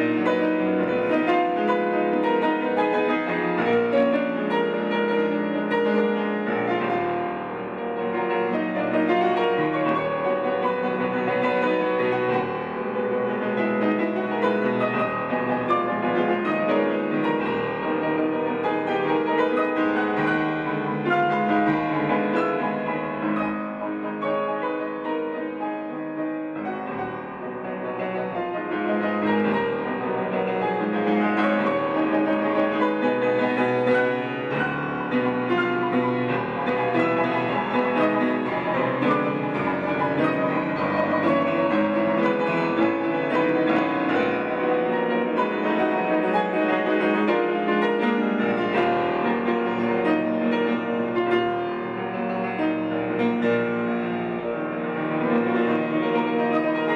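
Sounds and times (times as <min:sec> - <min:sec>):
classical piano passage: 0:00.0 - 0:56.9.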